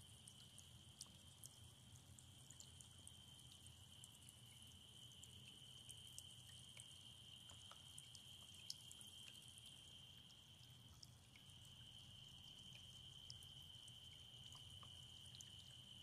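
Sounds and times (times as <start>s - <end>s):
fountain water dripping into basin: 0.0s - 16.0s.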